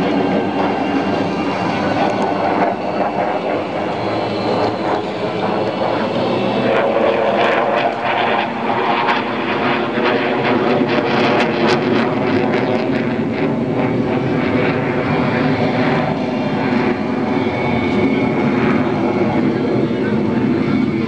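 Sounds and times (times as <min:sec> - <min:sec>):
jet engine roar with crackles: 0:00.0 - 0:21.0.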